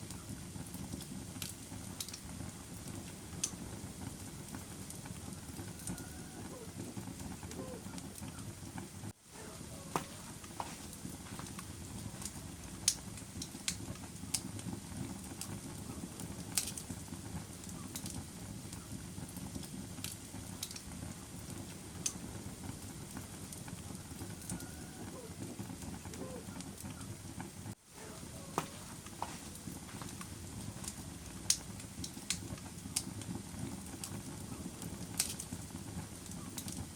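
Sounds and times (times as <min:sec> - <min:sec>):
fire flames rumbling: 0:00.0 - 0:36.9
wood fire crackles and pops: 0:00.0 - 0:36.9.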